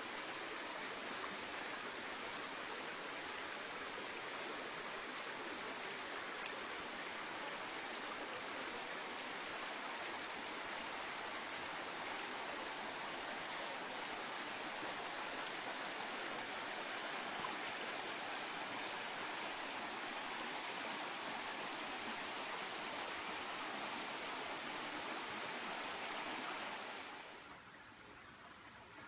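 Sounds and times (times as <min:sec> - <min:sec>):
rain falling in a forest: 0:00.0 - 0:29.0.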